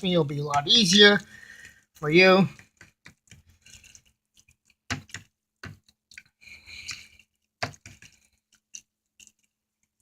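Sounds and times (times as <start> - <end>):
wet squishing stir: 0.0 - 10.0.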